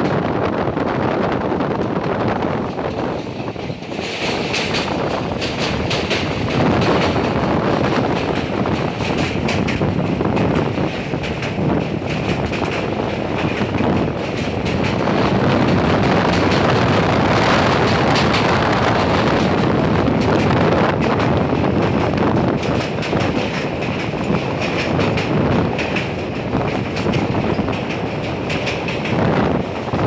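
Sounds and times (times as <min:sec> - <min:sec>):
train wheels rumbling: 0:00.0 - 0:30.0
wind buffeting microphone: 0:00.0 - 0:30.0.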